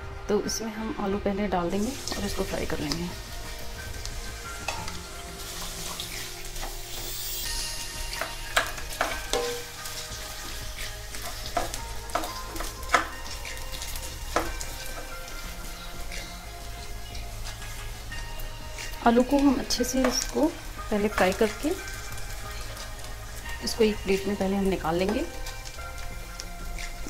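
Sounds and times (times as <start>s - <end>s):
potatoes sizzling in oil: 1.7s - 27.0s.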